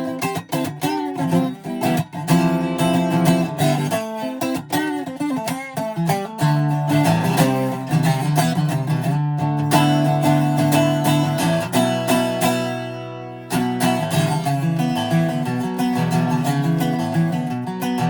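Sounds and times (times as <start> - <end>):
acoustic guitar strummed and picked: 0.0 - 18.0.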